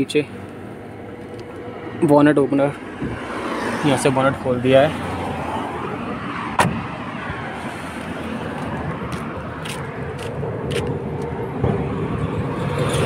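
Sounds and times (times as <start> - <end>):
outdoor traffic noise: 0.0 - 13.0.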